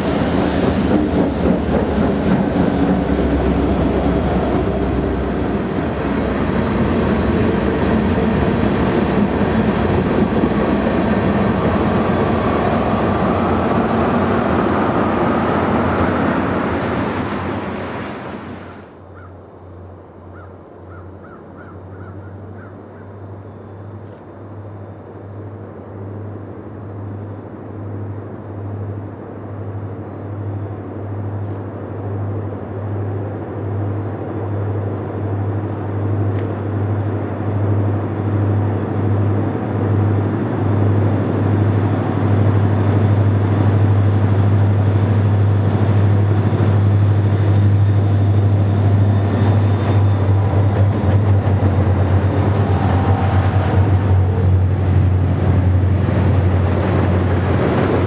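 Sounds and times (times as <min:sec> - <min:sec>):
diesel locomotive rumble: 0:00.0 - 0:20.2, 0:21.8 - 0:58.0.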